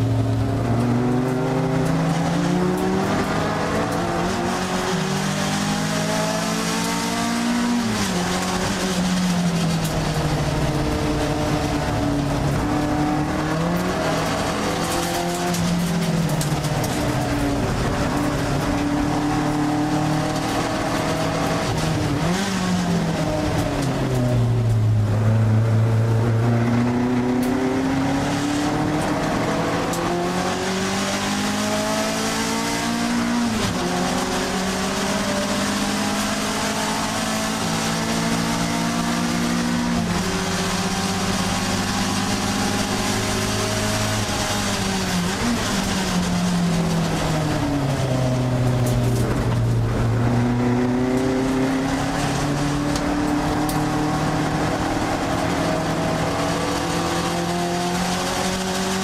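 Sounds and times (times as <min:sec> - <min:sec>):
car engine racing: 0:00.0 - 0:59.0.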